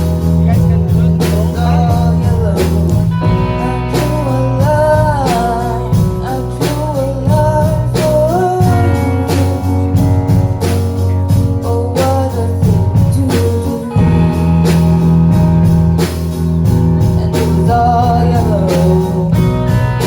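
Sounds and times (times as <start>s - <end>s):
person singing: 0.0s - 15.0s, 16.6s - 20.0s
bass line: 0.0s - 20.0s
drum beat: 0.0s - 20.0s
guitar: 0.0s - 20.0s.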